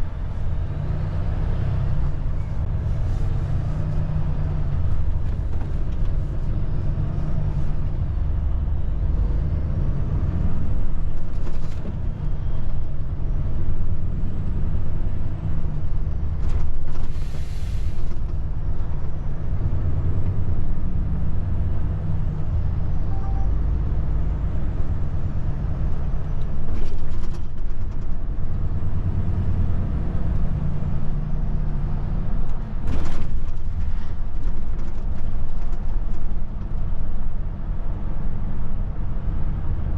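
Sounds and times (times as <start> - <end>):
heavy truck engine rumbling: 0.0 - 39.9.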